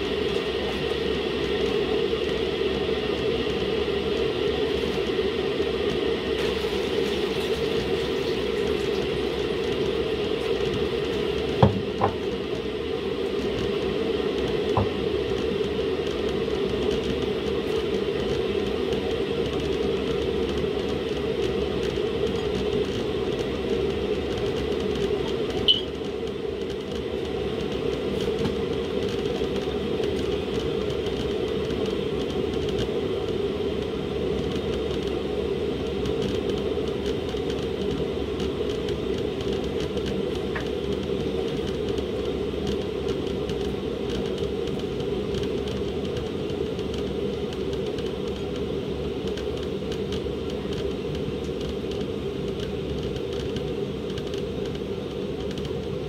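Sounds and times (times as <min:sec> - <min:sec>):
gas hob rushing: 0:00.0 - 0:56.0
soup boiling in a pot: 0:00.0 - 0:56.0.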